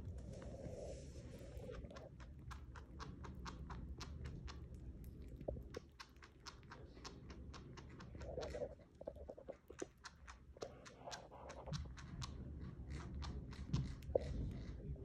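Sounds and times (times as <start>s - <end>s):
chinchilla chewing: 0.0s - 15.0s.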